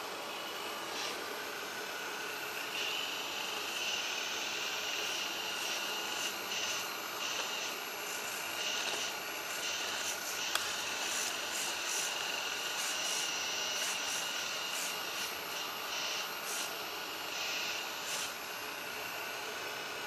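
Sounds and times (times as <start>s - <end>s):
hydraulic pump whine: 0.0s - 20.0s.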